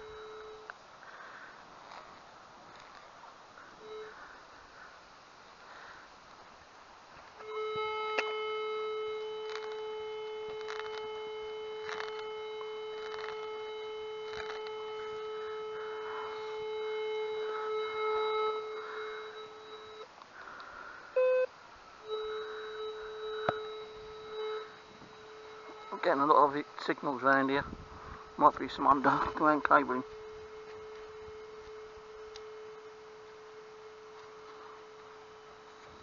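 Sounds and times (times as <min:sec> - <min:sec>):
metal detector high beep: 0:00.0 - 0:00.7, 0:03.8 - 0:04.2, 0:07.4 - 0:36.0
metal detector low signal tone: 0:00.0 - 0:02.2, 0:03.7 - 0:04.4, 0:07.4 - 0:36.0.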